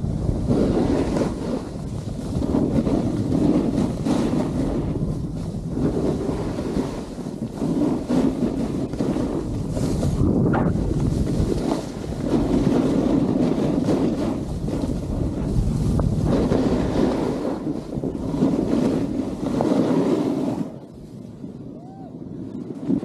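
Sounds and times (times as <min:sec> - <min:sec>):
snowboard scraping over snow: 0:00.0 - 0:21.2, 0:22.7 - 0:23.0
wind on microphone: 0:00.0 - 0:23.0.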